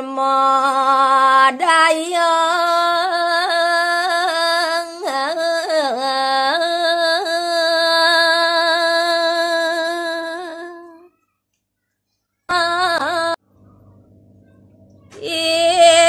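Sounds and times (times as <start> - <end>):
woman singing unaccompanied: 0.0 - 11.1, 12.5 - 13.4, 15.1 - 16.0.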